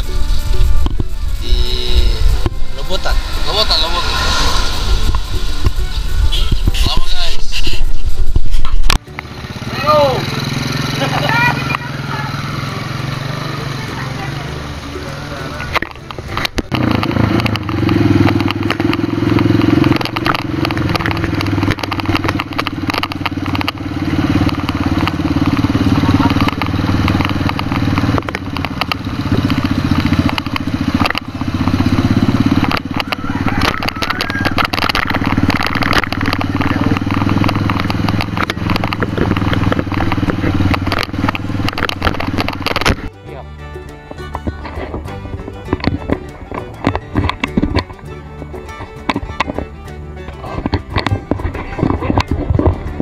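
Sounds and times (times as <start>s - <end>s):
engine crackles: 0.0s - 53.0s
motorcycle engine running: 0.0s - 53.0s.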